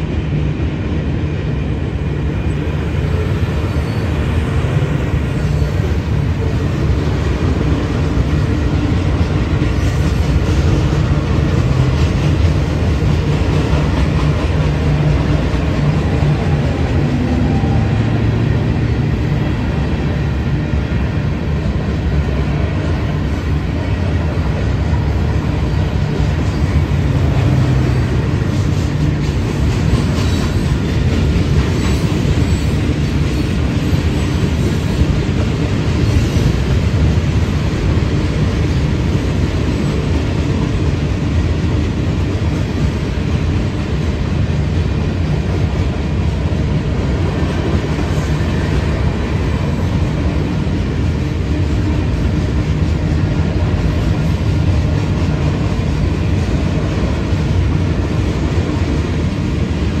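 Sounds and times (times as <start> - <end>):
freight train rumbling on rails: 0.0 - 60.0.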